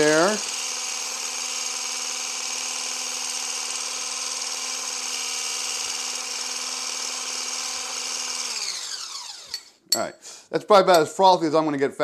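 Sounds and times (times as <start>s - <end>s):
blender motor whine: 0.0s - 9.7s.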